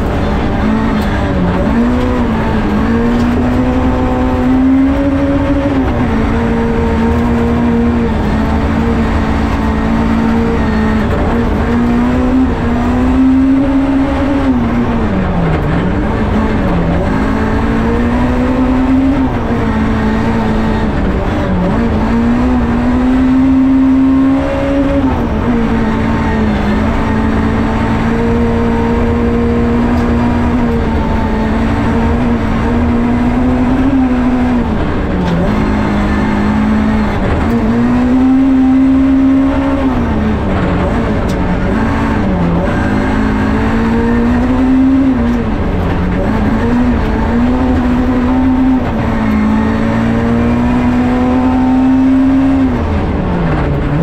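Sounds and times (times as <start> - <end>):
rally car engine under load: 0.0 - 54.0.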